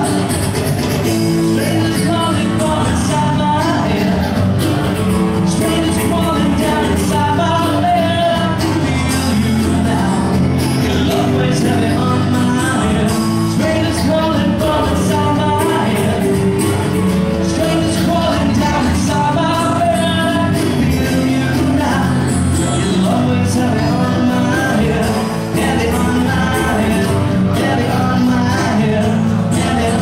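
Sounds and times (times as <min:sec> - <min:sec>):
bass: 0:00.0 - 0:30.0
man singing: 0:00.0 - 0:30.0
strummed acoustic guitars: 0:00.0 - 0:30.0.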